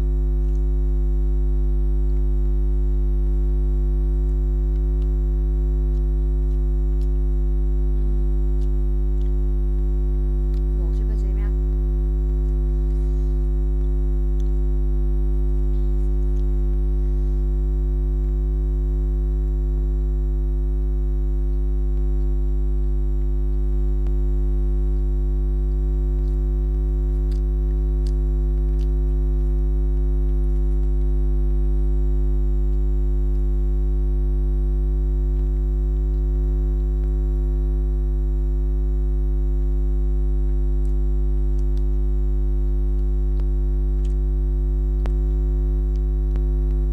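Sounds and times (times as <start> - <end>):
loud electrical hum and buzz: 0.0 - 46.9.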